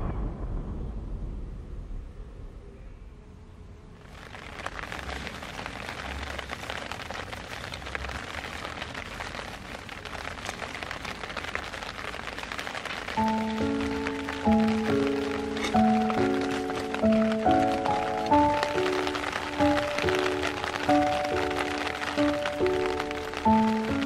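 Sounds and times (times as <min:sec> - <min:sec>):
rain falling steadily: 0:03.6 - 0:24.0.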